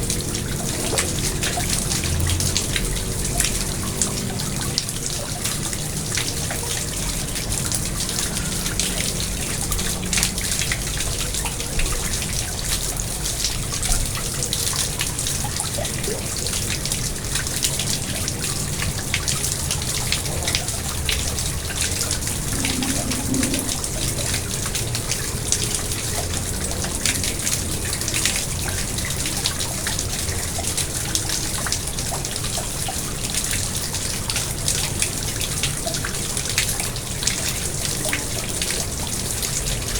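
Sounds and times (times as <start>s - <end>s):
pond water splashing and trickling: 0.0s - 39.9s.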